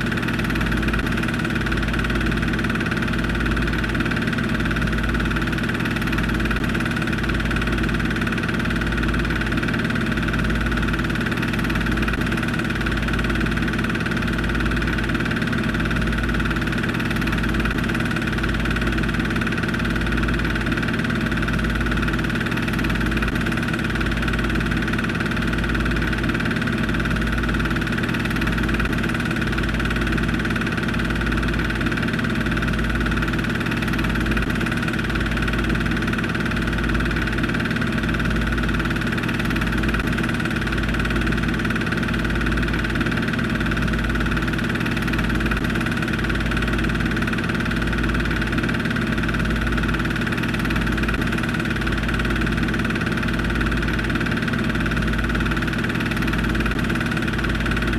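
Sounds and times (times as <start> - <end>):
film projector humming: 0.0 - 57.9.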